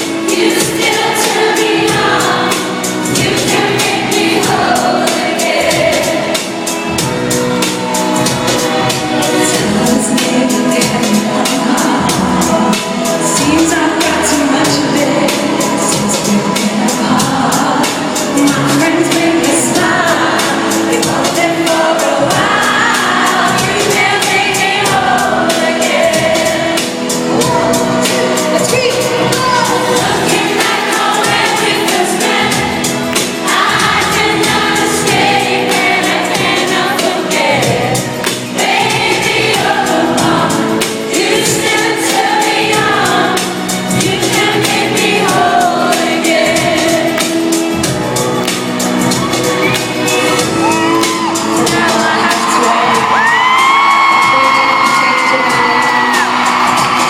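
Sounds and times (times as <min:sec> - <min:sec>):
female vocal group singing: 0:00.0 - 0:07.1, 0:08.2 - 0:57.0
backing track with steady beat: 0:00.0 - 0:57.0.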